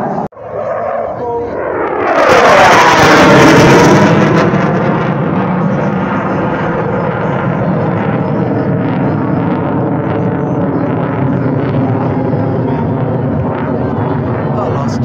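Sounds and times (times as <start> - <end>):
jet engine whine and rumble: 0.0 - 15.0.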